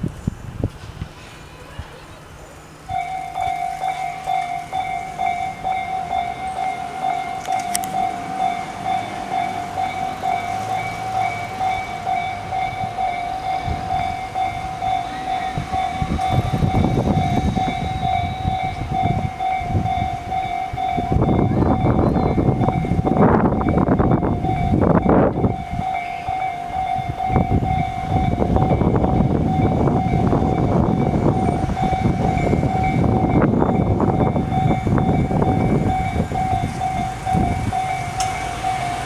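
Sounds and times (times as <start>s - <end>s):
train rumbling over rails: 0.0s - 39.0s
level crossing warning alarm: 2.6s - 39.0s.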